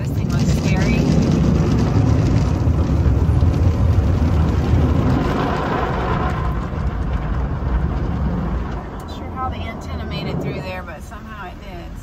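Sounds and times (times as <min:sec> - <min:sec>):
car wash machinery rushing: 0:00.0 - 0:12.0.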